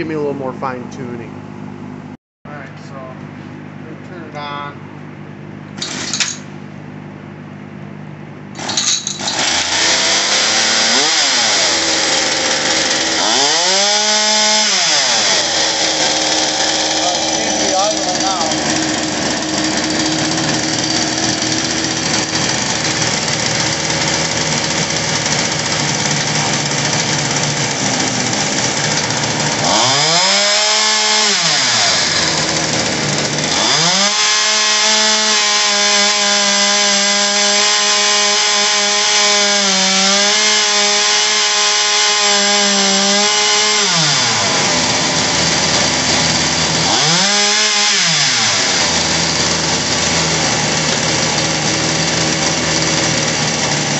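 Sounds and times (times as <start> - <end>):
chainsaw engine idling and revving: 5.8 - 6.4, 8.5 - 53.9.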